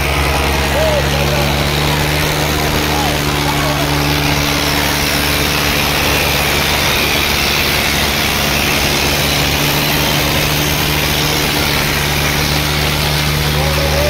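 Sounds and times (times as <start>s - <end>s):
diesel tractor engines idling: 0.0s - 14.0s.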